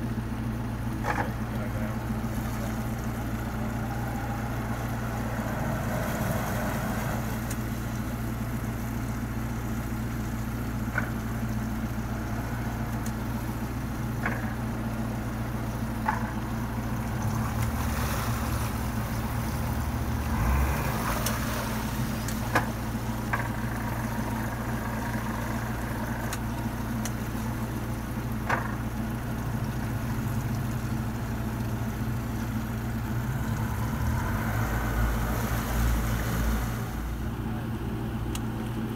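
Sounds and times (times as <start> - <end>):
outboard engines idling: 0.0 - 38.9.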